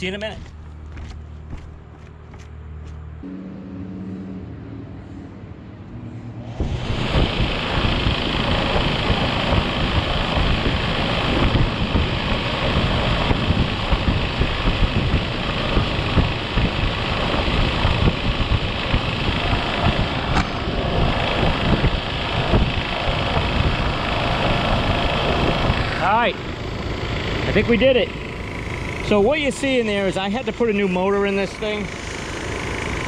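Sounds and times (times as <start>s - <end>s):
air conditioner fan and compressor: 0.0s - 3.3s, 6.4s - 33.0s.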